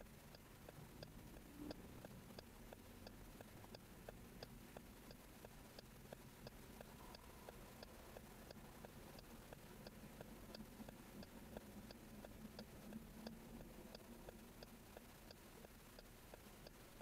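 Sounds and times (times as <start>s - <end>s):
faint low hum: 0.0s - 17.0s
turn signal clicking: 0.0s - 17.0s.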